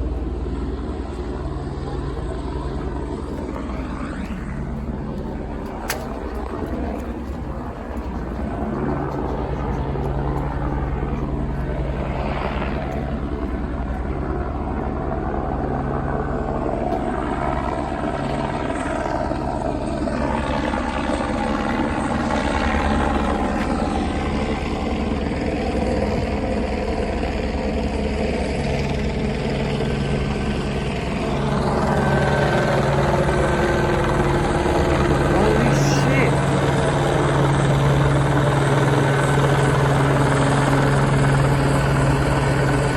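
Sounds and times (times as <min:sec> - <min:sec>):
helicopter rotor beating: 0:00.0 - 0:42.9
low engine drone: 0:00.0 - 0:42.9.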